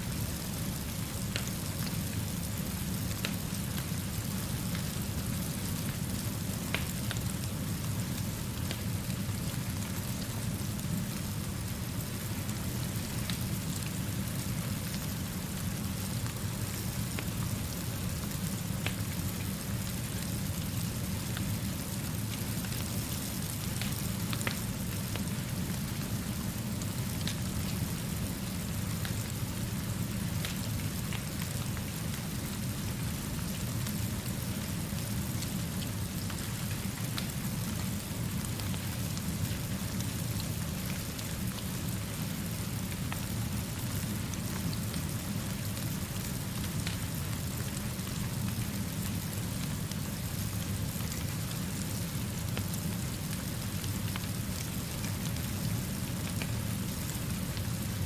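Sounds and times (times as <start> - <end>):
steady rainfall: 0.0 - 58.0
fire crackling: 0.1 - 58.0.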